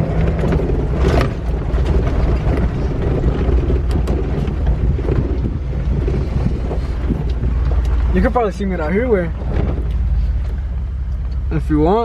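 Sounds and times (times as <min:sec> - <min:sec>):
wind buffeting microphone: 0:00.0 - 0:11.3
engine and drivetrain rumble: 0:00.0 - 0:12.0.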